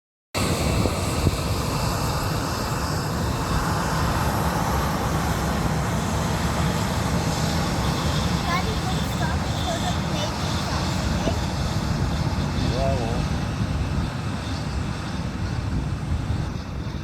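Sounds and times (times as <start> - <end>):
airplane engines rumbling: 0.4 - 17.0.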